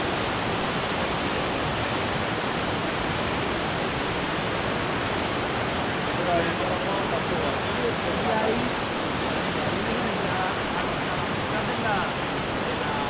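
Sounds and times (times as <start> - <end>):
river rapids rushing over stones: 0.0 - 13.0.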